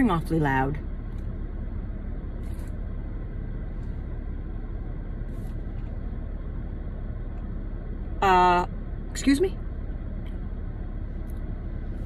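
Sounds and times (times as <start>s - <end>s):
car engine idling rumble: 0.0s - 12.0s.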